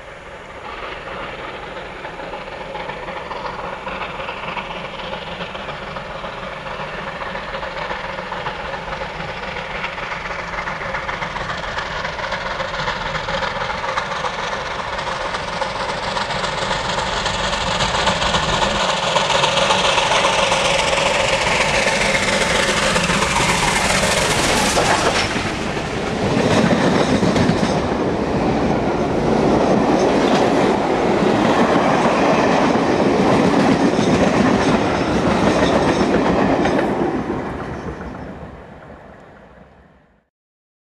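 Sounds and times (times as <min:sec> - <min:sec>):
train passing at speed: 0:00.0 - 0:40.3
clickety-clack of coaches passing: 0:00.4 - 0:39.8.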